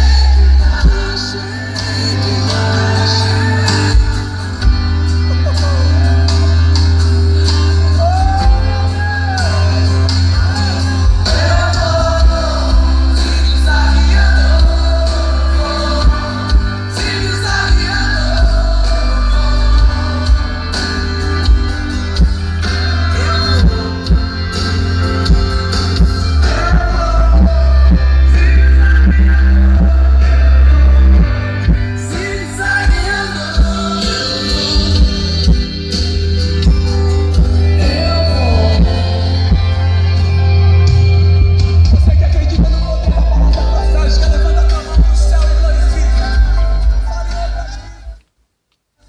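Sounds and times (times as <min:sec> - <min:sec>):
man singing gospel song: 0:00.0 - 0:06.3, 0:08.0 - 0:21.7, 0:22.6 - 0:24.8, 0:26.2 - 0:35.5, 0:37.6 - 0:40.0, 0:41.5 - 0:48.2.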